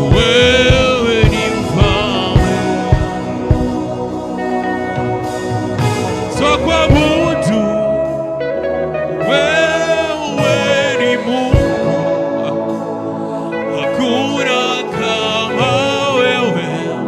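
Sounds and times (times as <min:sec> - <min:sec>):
instrumental backing: 0:00.0 - 0:17.0
person singing with vibrato: 0:00.0 - 0:17.0.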